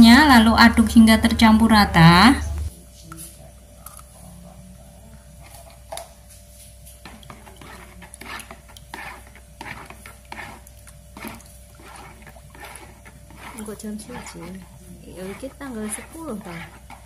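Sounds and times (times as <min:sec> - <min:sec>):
utensil sloshing and scraping bowl: 0:00.0 - 0:02.7, 0:05.2 - 0:17.0.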